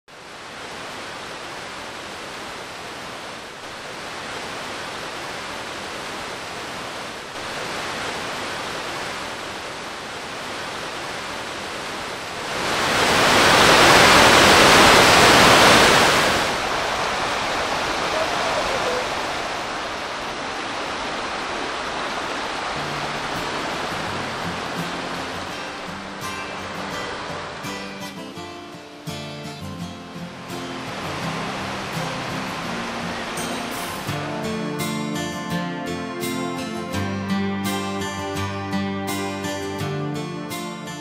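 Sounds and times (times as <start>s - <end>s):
rushing white water: 0.1s - 41.0s.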